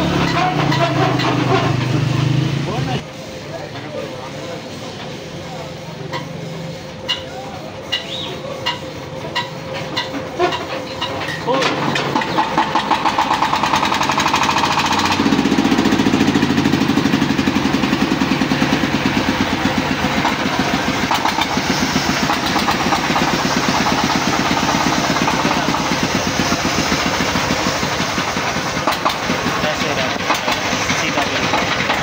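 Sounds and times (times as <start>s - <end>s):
diesel engine thumping: 0.0s - 3.1s, 6.1s - 32.0s.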